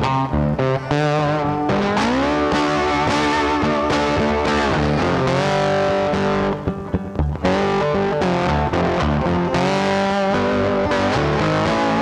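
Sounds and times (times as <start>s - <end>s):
background guitar music: 0.0s - 12.0s.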